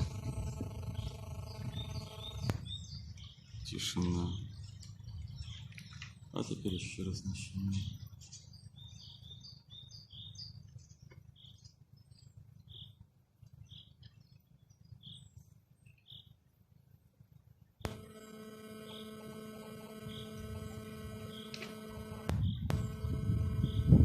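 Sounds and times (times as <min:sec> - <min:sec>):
songbird chirping: 0:00.0 - 0:16.6, 0:17.6 - 0:24.0
steady multi-tone hum: 0:00.0 - 0:24.0.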